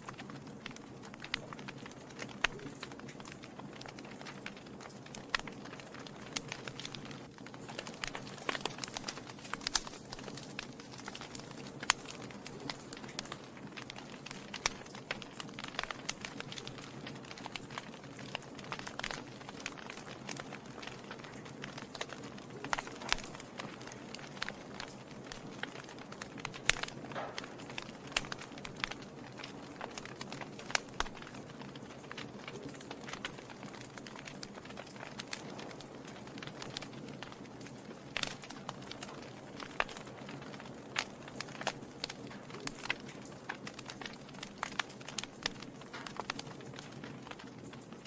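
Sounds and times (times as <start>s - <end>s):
fire crackling and popping: 0.0s - 48.0s
low sound of flames: 0.0s - 48.0s.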